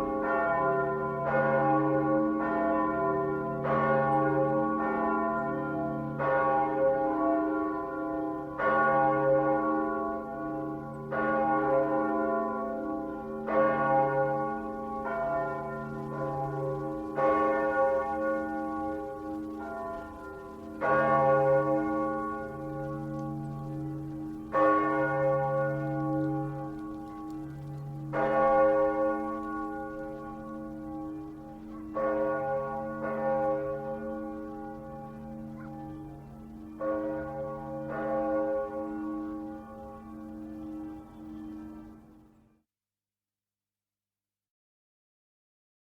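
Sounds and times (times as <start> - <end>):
large church bell tolling: 0.0 - 42.3.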